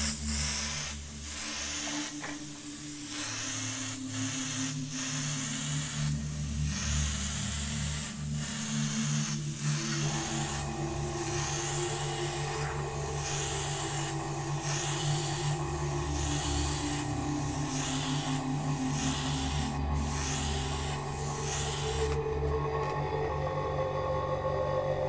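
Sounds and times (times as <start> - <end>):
airbrush hissing strokes: 0.0 - 22.5.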